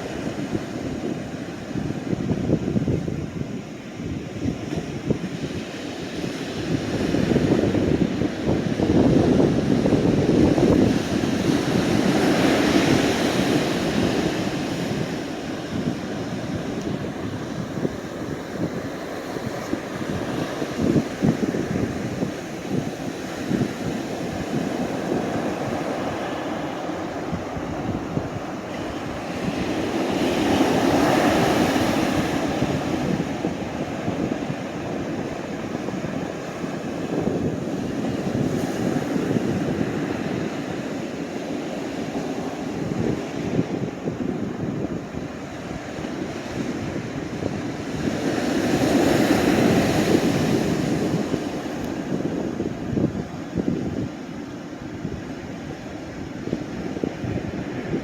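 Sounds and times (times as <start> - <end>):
gusty wind buffeting microphone: 0.0 - 58.0
surf breaking on beach: 0.0 - 58.0.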